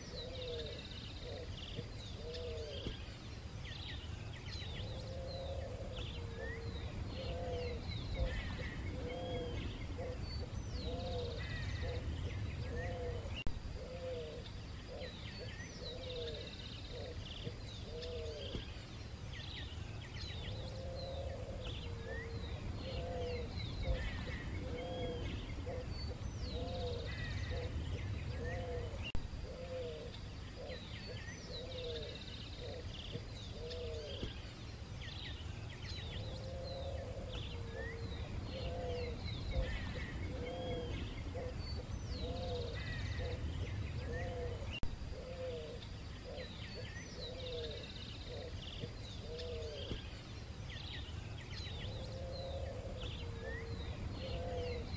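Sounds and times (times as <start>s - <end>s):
steady low rumble: 0.0s - 47.2s
low rising-and-falling bird calls: 4.6s - 19.7s, 20.3s - 54.9s.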